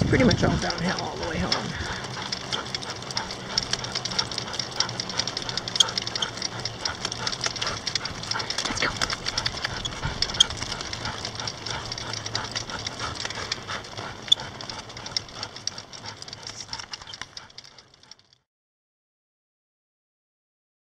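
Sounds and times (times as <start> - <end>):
cart and harness clicking rattle: 0.0 - 18.4
dogs panting: 0.0 - 18.4.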